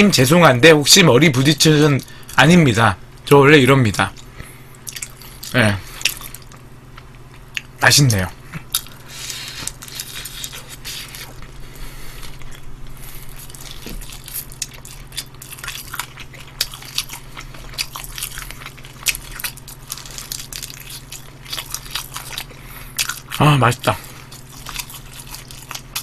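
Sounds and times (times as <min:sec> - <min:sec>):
crunchy biting and chewing: 0:04.2 - 0:07.8, 0:08.6 - 0:26.0.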